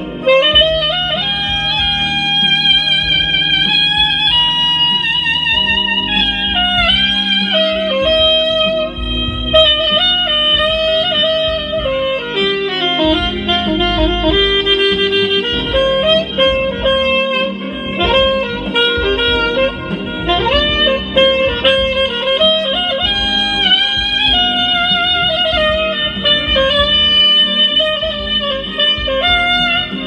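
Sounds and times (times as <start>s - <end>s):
backing track with bass: 0.0s - 30.0s
soprano saxophone melody: 0.0s - 30.0s.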